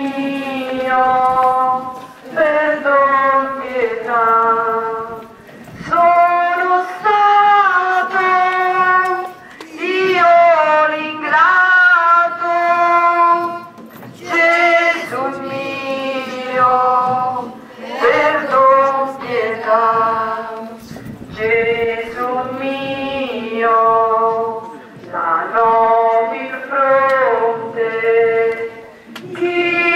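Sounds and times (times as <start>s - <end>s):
women and girls singing hymn: 0.0s - 29.9s.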